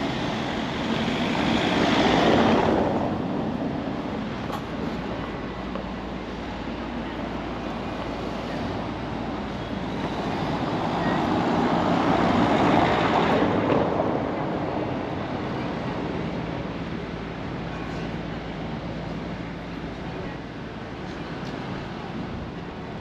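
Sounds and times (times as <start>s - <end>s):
low street background: 0.0s - 23.0s.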